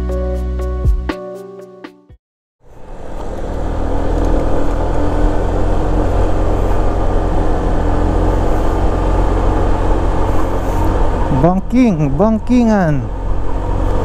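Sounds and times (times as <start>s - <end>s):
scooter engine running: 2.6s - 14.0s.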